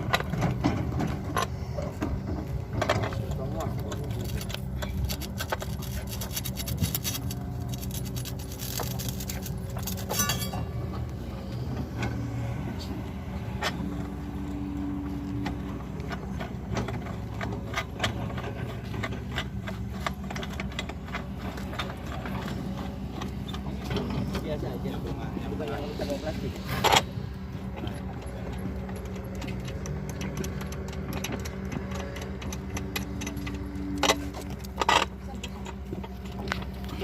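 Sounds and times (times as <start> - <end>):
sharp clicks and scrapes: 0.0 - 11.2, 15.2 - 37.0
core drill engine running: 0.0 - 37.0.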